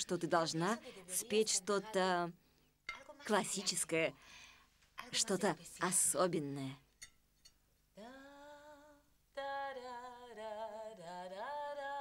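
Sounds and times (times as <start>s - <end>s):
woman singing wordless melody: 0.0s - 4.1s, 5.0s - 6.8s, 7.9s - 12.0s.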